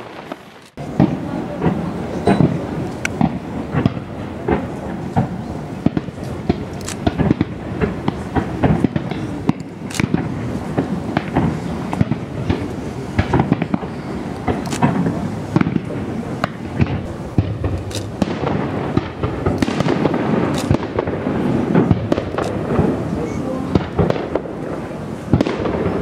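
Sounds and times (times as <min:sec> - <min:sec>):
continuous rumble: 0:00.0 - 0:26.0
fireworks bursting: 0:00.0 - 0:26.0.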